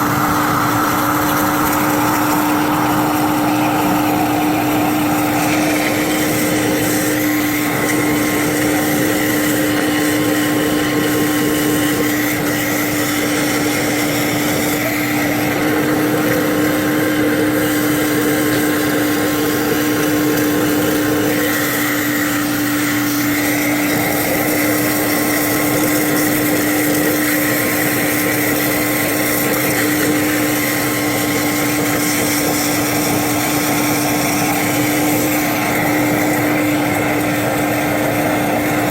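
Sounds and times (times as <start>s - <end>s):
machine humming with whine and hiss: 0.0s - 38.9s.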